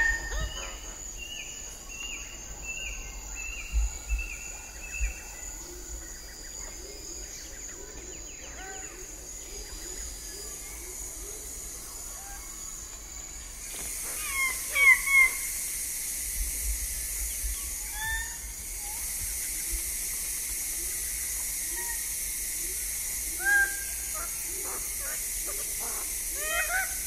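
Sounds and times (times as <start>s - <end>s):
forest ambience hiss: 0.0s - 27.0s.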